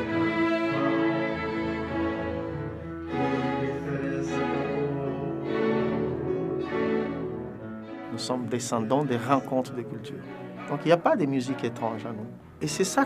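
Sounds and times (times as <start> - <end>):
slow bowed strings music: 0.0 - 13.0.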